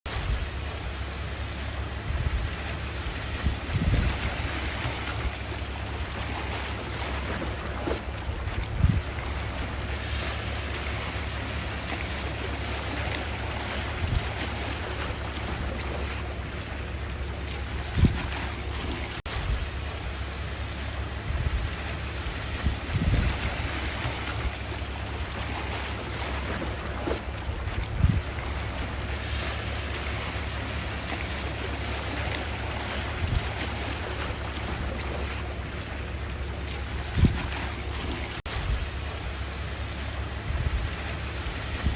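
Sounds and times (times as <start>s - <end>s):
sea waves washing: 0.1s - 41.9s
wind rumbling on microphone: 0.1s - 41.9s.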